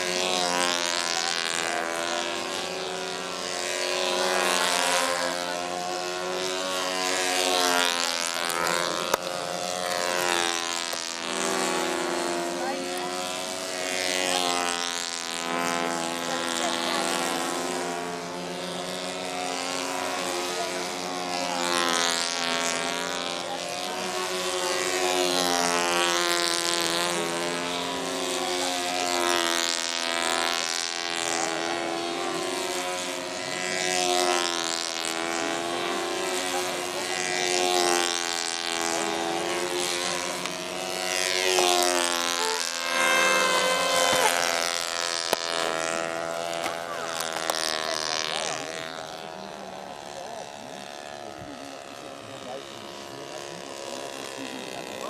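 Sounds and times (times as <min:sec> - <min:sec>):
model plane engines buzzing: 0:00.0 - 0:55.0.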